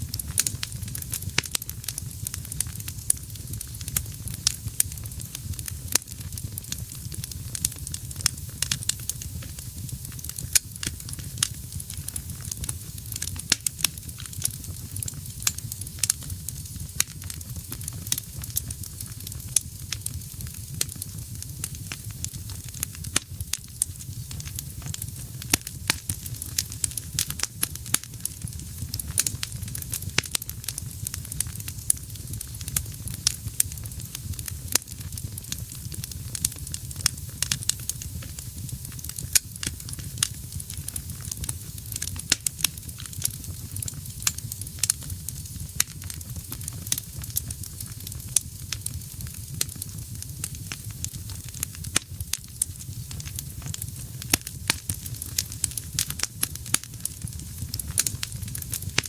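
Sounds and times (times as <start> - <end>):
low rumble of flame: 0.0 - 59.0
wood fire crackling and popping: 0.0 - 59.0.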